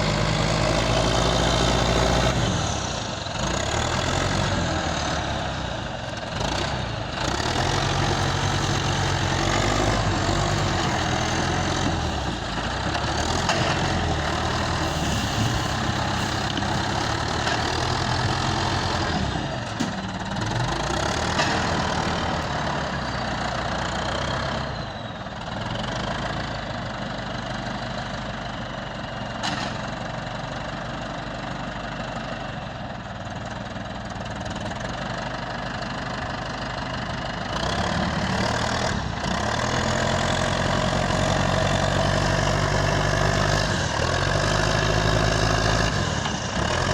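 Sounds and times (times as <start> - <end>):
diesel engine under load: 0.0 - 46.9.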